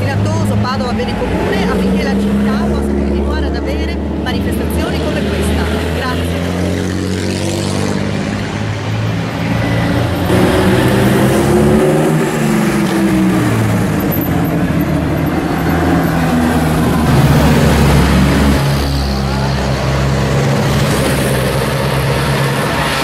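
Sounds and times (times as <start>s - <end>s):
car engines driving past: 0.0s - 23.0s.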